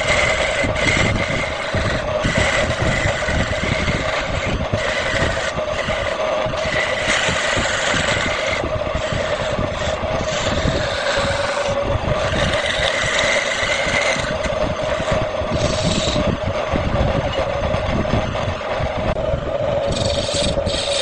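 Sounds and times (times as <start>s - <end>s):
wood lathe running: 0.0s - 21.0s.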